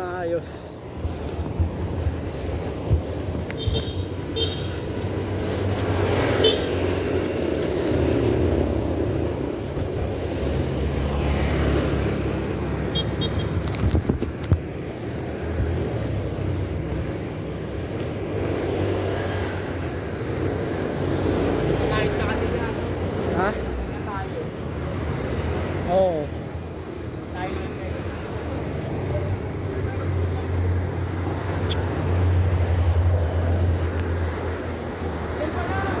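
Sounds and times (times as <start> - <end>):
cars passing: 0.0 - 36.0
road traffic noise: 0.0 - 36.0.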